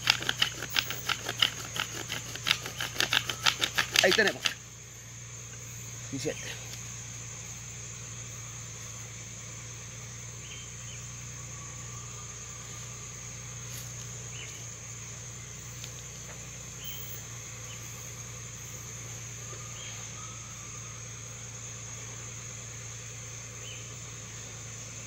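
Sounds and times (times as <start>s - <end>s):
high-pitched insect drone: 0.0s - 25.0s
low steady hum: 0.0s - 25.0s.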